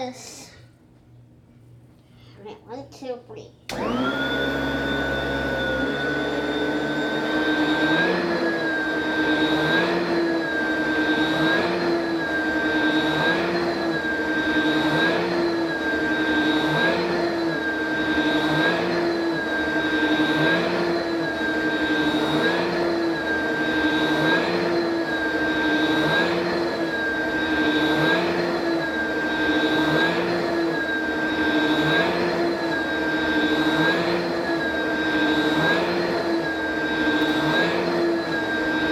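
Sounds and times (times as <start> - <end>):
vacuum cleaner running: 3.7 - 38.9.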